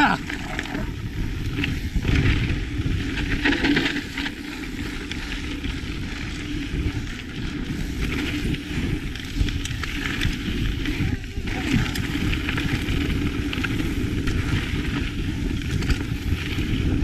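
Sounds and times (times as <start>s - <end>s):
bike rattles and knocks: 0.0s - 17.0s
bike tyres rolling on dirt: 0.0s - 17.0s
wind noise on microphone: 0.0s - 17.0s.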